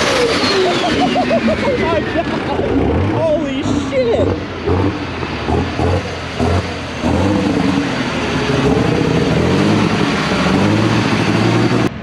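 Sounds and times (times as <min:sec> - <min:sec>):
tractor engine high-revving drone: 0:00.0 - 0:12.0.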